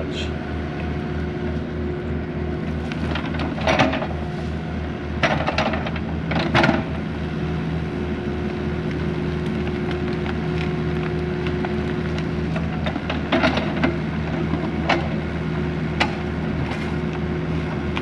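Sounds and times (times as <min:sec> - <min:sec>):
excavator diesel engine throbbing: 0:00.0 - 0:18.0.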